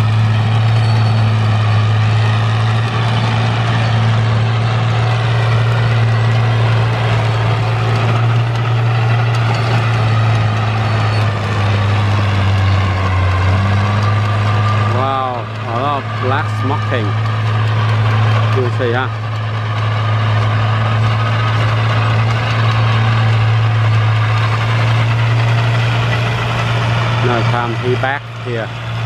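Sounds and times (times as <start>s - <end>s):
tractor diesel engine droning: 0.0s - 29.0s.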